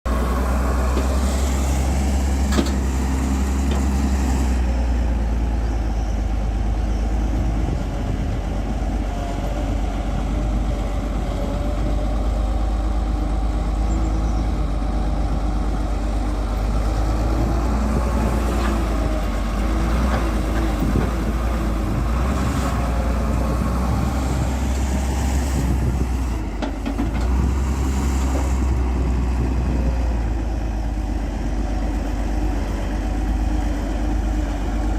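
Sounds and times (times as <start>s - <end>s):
excavator diesel engine: 0.1s - 34.9s.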